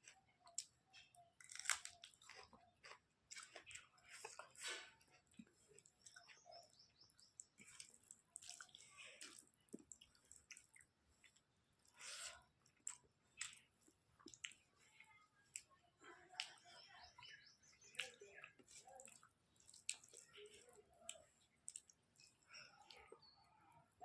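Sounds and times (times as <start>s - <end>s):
person chewing food: 0.0s - 16.6s, 17.9s - 23.2s.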